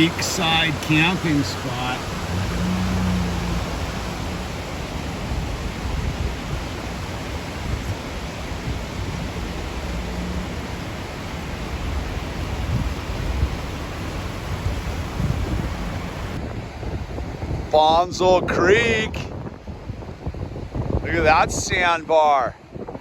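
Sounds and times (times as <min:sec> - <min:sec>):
creek water rushing: 0:00.0 - 0:22.9
wind on microphone: 0:00.0 - 0:23.0.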